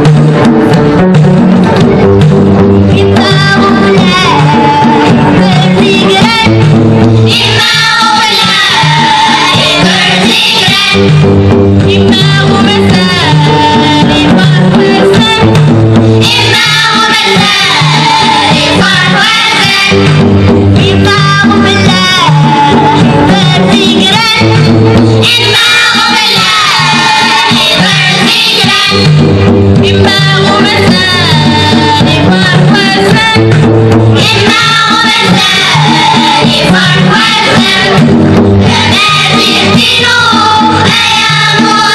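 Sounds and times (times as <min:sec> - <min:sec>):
hand drum: 0:00.0 - 0:41.9
children's choir singing: 0:03.0 - 0:06.6, 0:07.2 - 0:11.2, 0:11.9 - 0:15.4, 0:16.2 - 0:33.5, 0:34.2 - 0:41.9.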